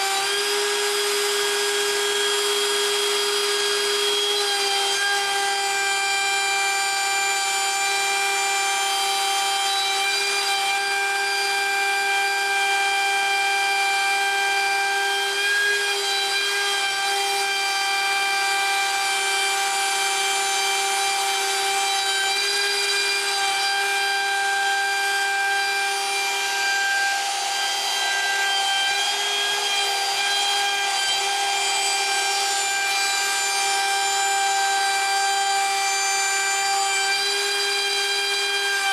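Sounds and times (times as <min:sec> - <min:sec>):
bit cutting wood: 0:00.0 - 0:38.9
router spindle whine: 0:00.0 - 0:38.9.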